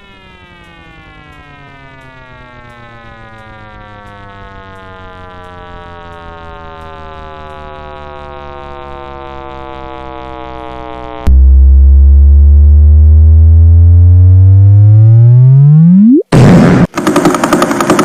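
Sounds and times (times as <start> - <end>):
low tone sliding upward: 0.0 - 16.4
synthesized tone sinking in pitch: 0.0 - 16.9.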